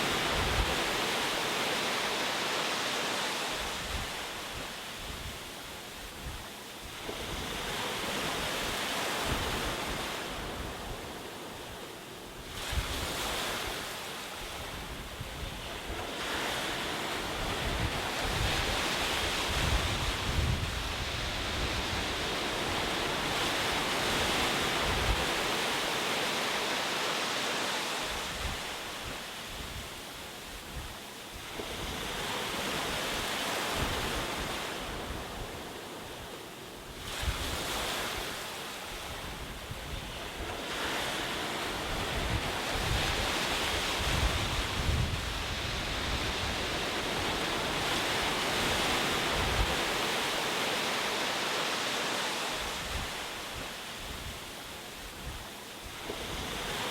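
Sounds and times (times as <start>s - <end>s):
waves breaking on shore: 0.0s - 56.9s.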